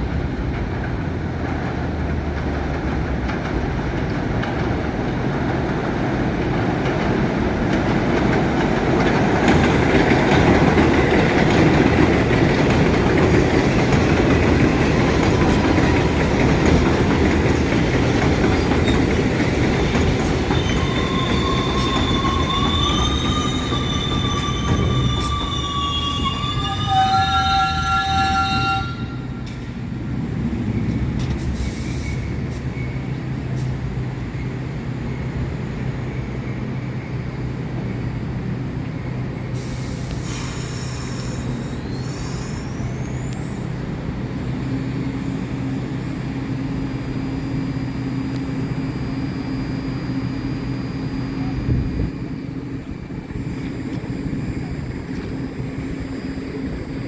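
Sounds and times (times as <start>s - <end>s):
train rumbling: 0.0s - 57.0s
train wheels squealing on rails: 3.7s - 57.0s.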